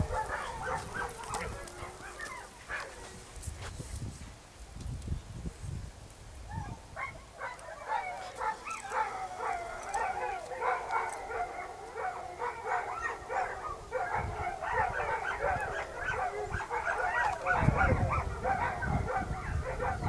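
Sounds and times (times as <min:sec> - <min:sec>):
dogs barking and yelping: 0:00.0 - 0:03.2, 0:06.5 - 0:20.0.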